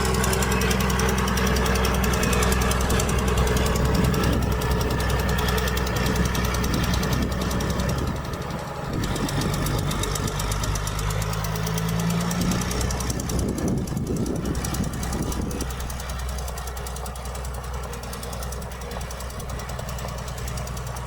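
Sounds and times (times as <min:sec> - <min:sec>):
heavy diesel engine running: 0:00.0 - 0:21.0
mechanical clatter: 0:00.0 - 0:21.0.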